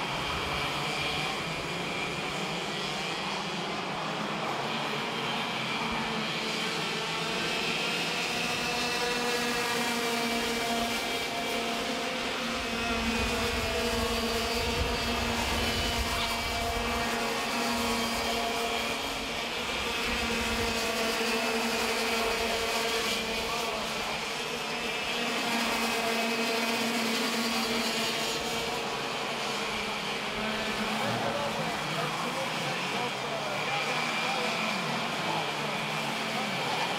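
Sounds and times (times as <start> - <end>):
go-kart engine at high revs: 0.0 - 36.9.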